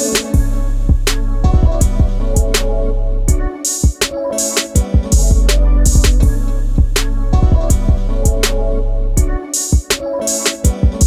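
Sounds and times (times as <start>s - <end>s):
music with bass and drum beat: 0.0s - 11.0s.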